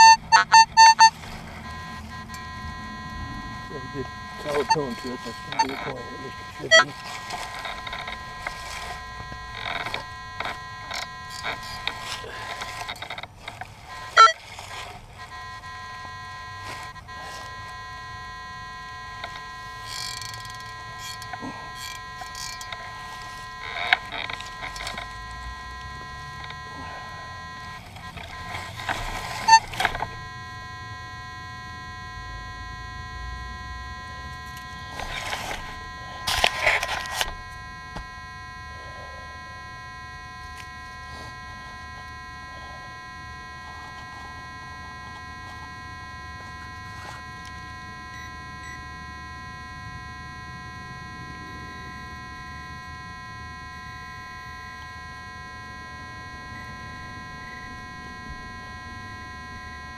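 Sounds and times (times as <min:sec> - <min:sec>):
electronic buzz: 0:00.0 - 0:59.9.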